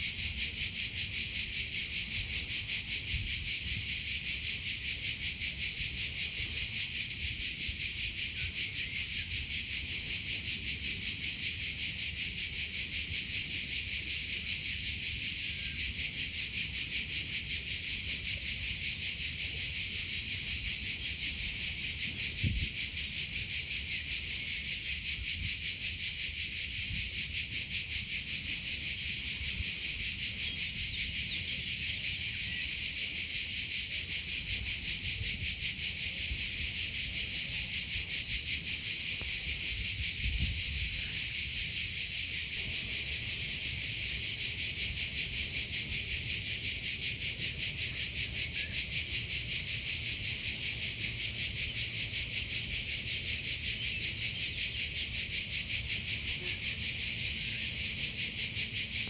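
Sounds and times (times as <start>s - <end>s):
cricket chirping trill: 0.0s - 59.0s.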